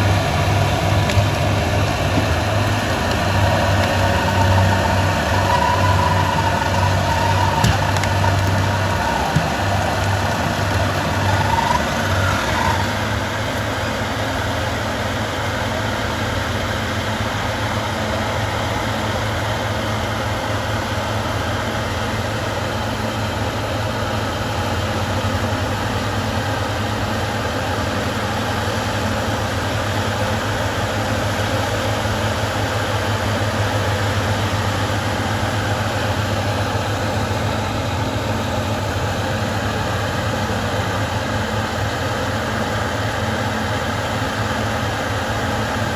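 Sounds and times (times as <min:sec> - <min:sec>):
bulldozer diesel engine droning: 0:00.0 - 0:45.9.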